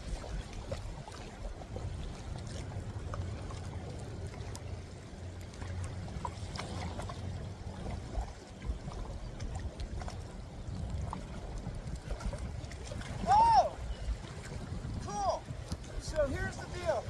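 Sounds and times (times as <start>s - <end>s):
water sloshing and trickling: 0.0s - 17.0s.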